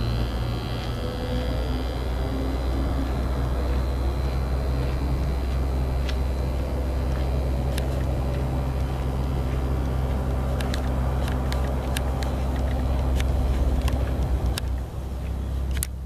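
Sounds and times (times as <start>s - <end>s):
airplane engine droning: 0.0s - 16.0s
faint sharp ticks: 2.6s - 16.0s.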